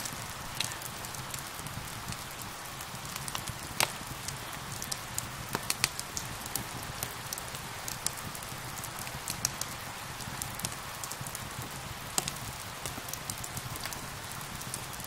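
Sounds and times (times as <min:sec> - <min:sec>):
rain hiss: 0:00.0 - 0:15.0
wood fire crackling: 0:00.0 - 0:15.0.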